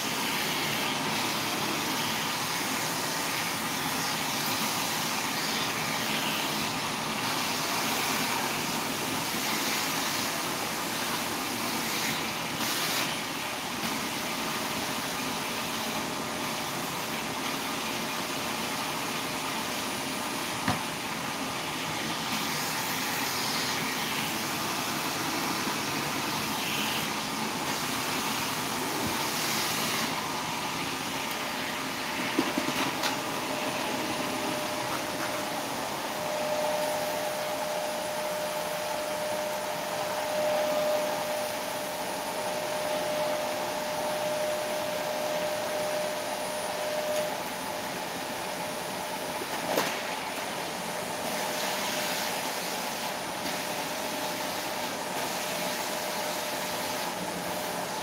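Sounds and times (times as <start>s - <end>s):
steady hissing noise: 0.0s - 58.0s.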